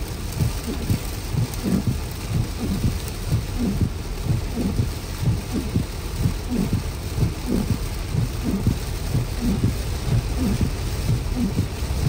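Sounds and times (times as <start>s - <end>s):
steady hiss of rain: 0.0s - 12.0s
low thuds: 0.3s - 12.0s.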